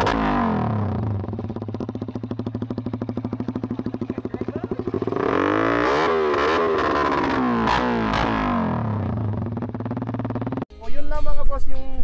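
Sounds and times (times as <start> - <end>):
motorcycle engine revving and idling: 0.0 - 10.7.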